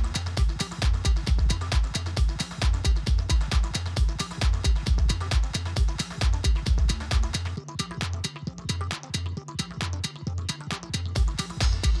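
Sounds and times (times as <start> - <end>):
electronic music with drum machine: 0.0 - 12.0.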